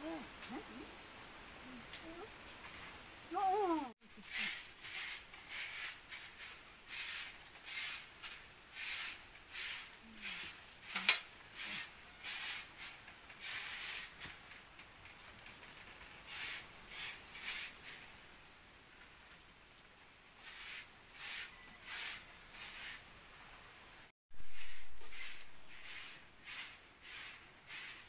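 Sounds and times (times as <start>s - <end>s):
grass broom sweeping earth floor: 2.0s - 18.2s, 20.4s - 23.1s, 24.3s - 28.0s.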